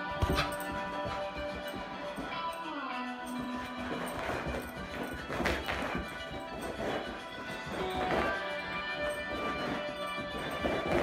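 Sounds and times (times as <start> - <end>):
background music sustained notes: 0.0 - 11.0.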